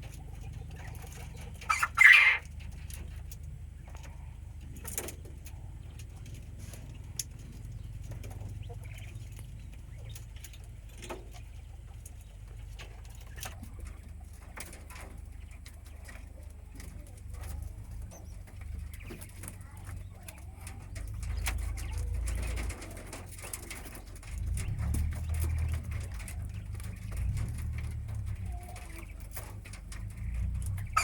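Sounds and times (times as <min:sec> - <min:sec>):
quail cooing: 0:00.0 - 0:31.0.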